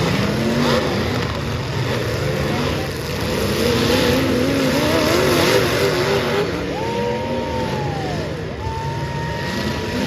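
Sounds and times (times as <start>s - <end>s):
car engines revving hard: 0.0s - 10.0s.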